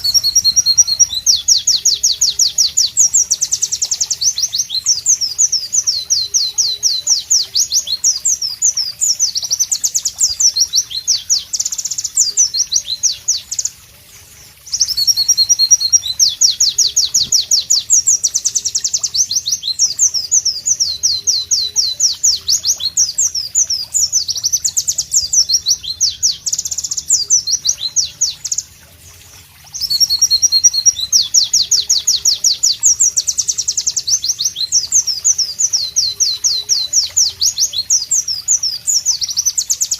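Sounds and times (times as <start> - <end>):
white-eye bird singing: 0.0 - 28.9, 29.7 - 39.9.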